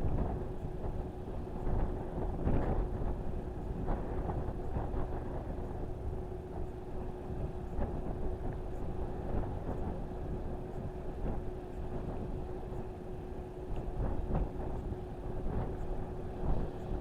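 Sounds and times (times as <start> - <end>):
faint steady hum: 0.0 - 17.0
wind on microphone: 0.0 - 17.0.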